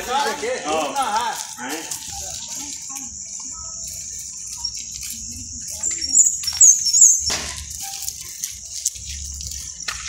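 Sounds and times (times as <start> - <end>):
shrill chirps: 0.8 - 9.9.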